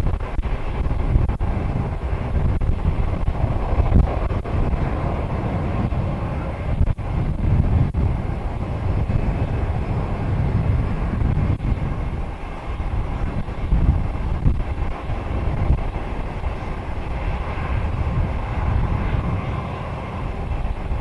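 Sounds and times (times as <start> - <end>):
jet engines rumbling: 0.0 - 21.0
wind buffeting microphone: 0.0 - 21.0.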